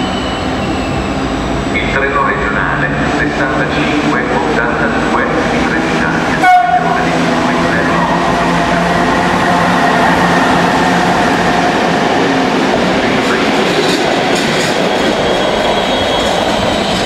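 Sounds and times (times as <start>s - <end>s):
locomotive hum: 0.0s - 17.0s
train wheels rushing on rail: 0.0s - 17.0s.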